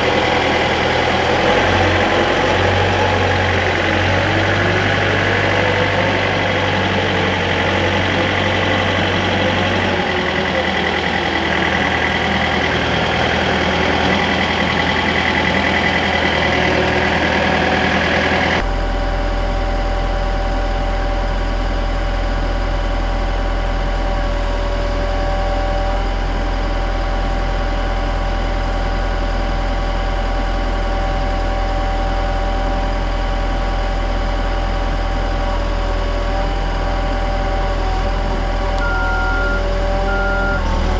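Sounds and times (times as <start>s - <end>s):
lift engine running: 0.0s - 40.9s.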